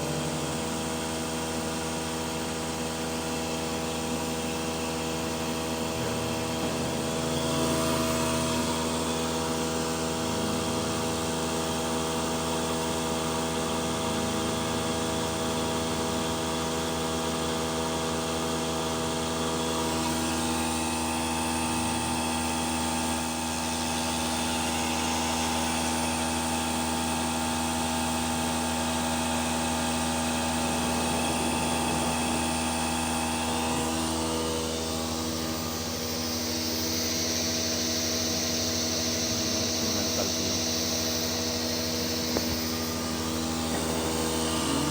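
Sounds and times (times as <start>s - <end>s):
machine motor whine and hum: 0.0s - 44.9s.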